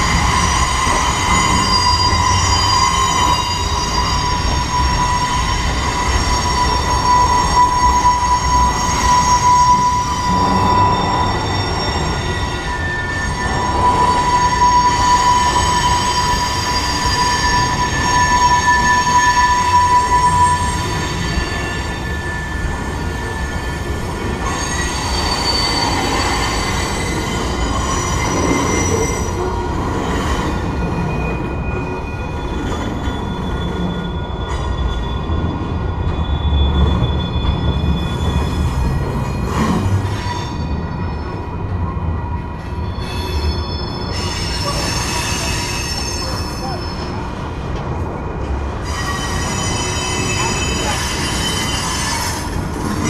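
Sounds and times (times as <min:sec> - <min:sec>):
low rumble of train: 0:00.0 - 0:53.0
train wheels squealing on rail: 0:00.0 - 0:53.0.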